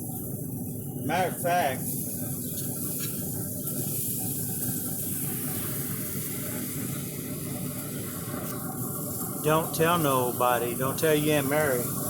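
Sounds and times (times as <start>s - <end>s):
steaks sizzling on a grill: 0.0s - 12.0s.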